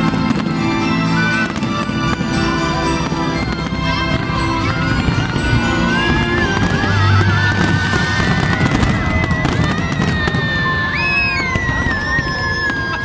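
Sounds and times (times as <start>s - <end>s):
music with high melody: 0.0s - 10.7s
fireworks bursting and crackling: 0.0s - 13.0s.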